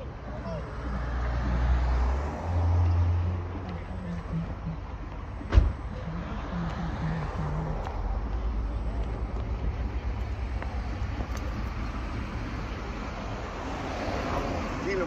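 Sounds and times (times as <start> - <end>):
car engines and street traffic: 0.0 - 15.0.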